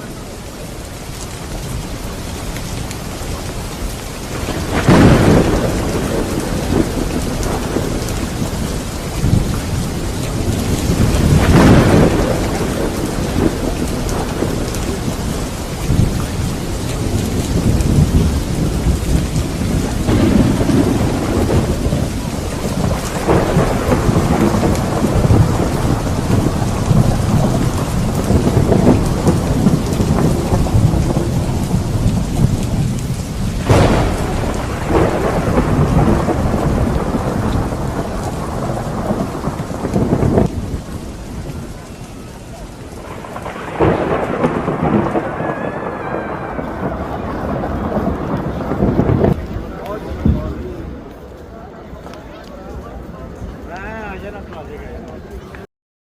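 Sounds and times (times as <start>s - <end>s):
rolling thunder rumbling: 0.0s - 55.4s
heavy rain falling: 0.0s - 55.7s
thunder claps: 0.0s - 55.7s.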